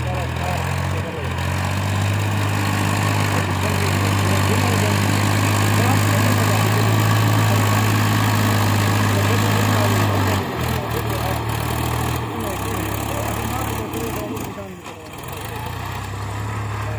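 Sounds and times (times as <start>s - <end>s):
tractor engine humming: 0.0s - 16.9s.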